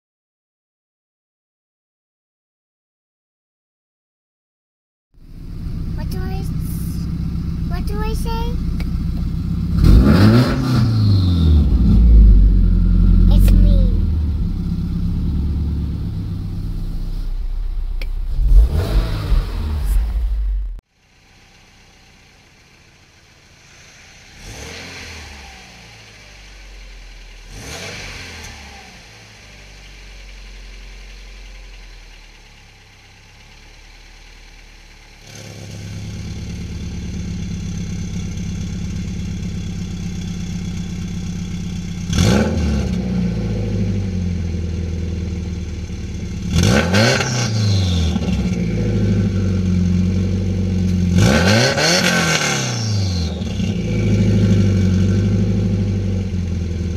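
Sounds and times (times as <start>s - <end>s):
car engine idling: 5.2s - 42.3s, 42.9s - 46.7s, 47.5s - 51.3s, 52.8s - 56.9s
car engine revving: 5.3s - 32.1s, 33.2s - 56.9s.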